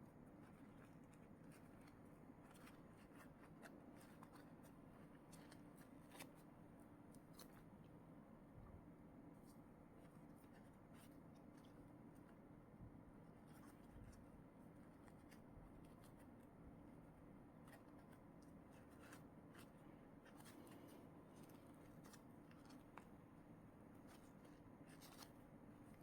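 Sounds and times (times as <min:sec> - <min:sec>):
low steady background hum: 0:00.0 - 0:26.0.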